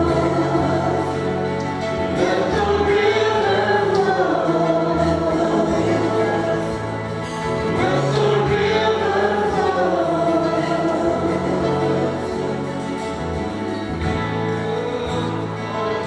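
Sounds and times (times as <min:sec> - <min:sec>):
steady bass accompaniment: 0:00.0 - 0:16.0
voices singing gospel song: 0:00.0 - 0:16.0.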